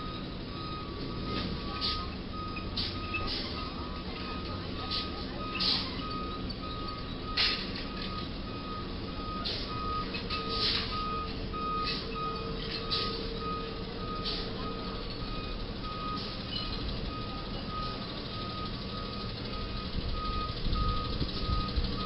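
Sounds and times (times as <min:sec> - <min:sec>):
street traffic noise: 0:00.0 - 0:22.0
truck reversing alarm beeping: 0:00.0 - 0:22.0.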